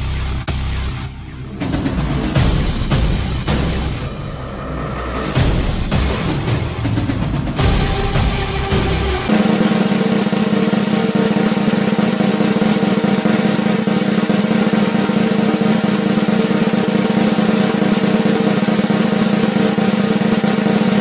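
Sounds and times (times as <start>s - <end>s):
drum roll: 1.6s - 4.1s, 5.2s - 21.0s.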